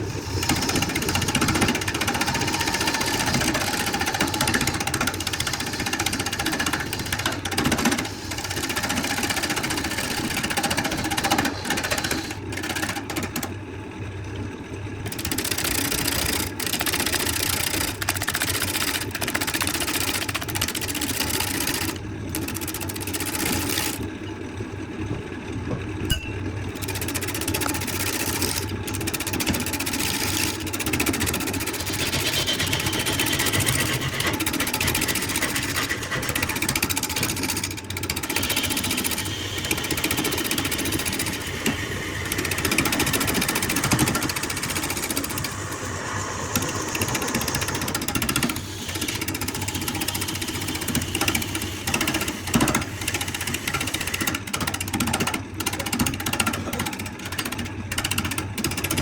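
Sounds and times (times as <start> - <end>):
woodworking machinery running: 0.0 - 59.0.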